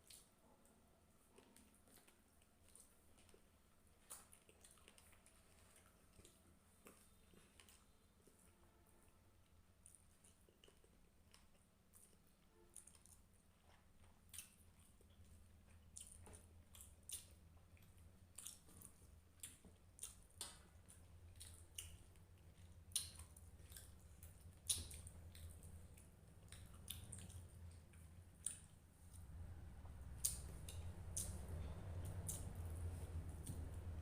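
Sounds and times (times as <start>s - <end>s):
low steady hum: 0.0s - 34.0s
people chewing and mouth clicks: 0.0s - 34.0s.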